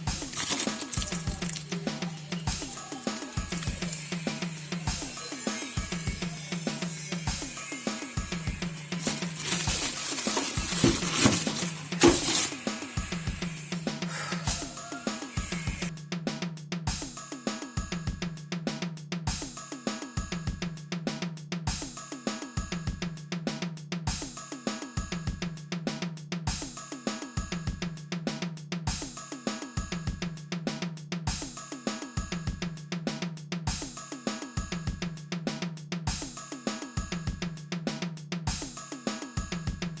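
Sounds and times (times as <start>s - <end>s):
looping music with drum beat: 0.0s - 40.0s.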